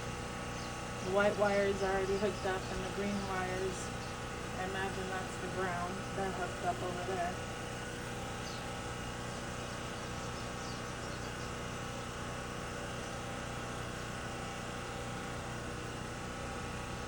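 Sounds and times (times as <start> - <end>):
low machine drone: 0.0 - 17.0.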